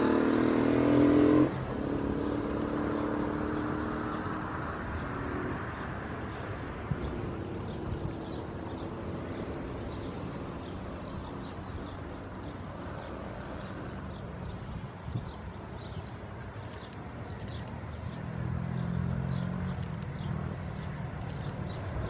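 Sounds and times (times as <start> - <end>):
jet engines rumbling: 1.6 - 22.0.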